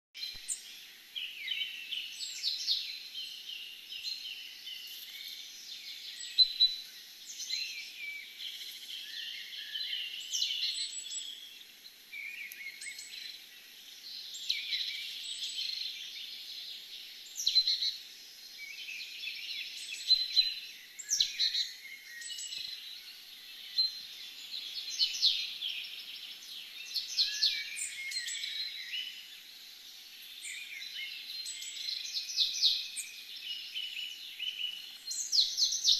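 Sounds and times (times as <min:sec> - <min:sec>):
songbirds singing and chirping: 0:00.2 - 0:35.9.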